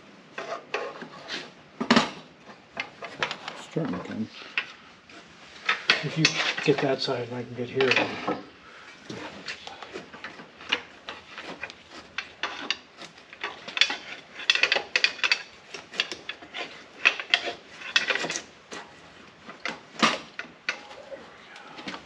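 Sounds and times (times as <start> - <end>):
metal clunks and scraping: 0.3 - 22.0.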